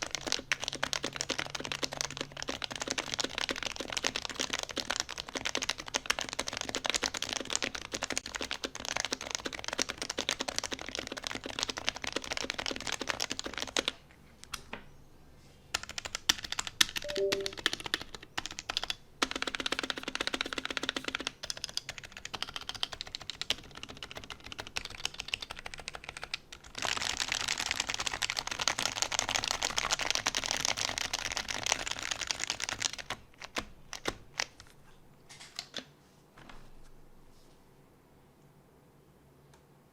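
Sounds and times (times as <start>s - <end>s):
fast keyboard typing: 0.0s - 14.0s, 15.7s - 34.6s.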